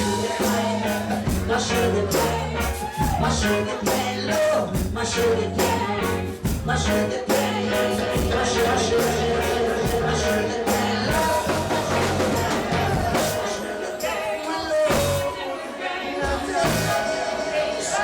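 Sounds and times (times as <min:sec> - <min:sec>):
live reggae band playing: 0:00.0 - 0:18.0
person singing: 0:00.0 - 0:18.0.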